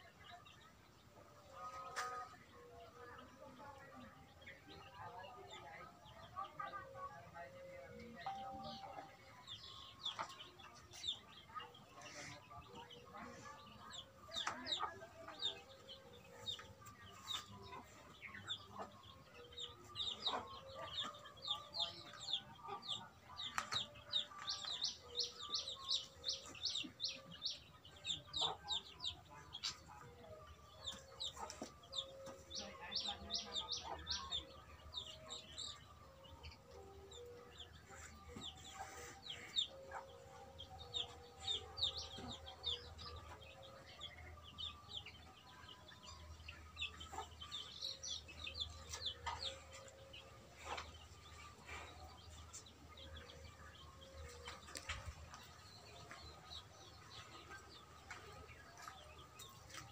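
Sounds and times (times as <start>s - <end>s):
chickens clucking and chirping: 0.0s - 59.9s.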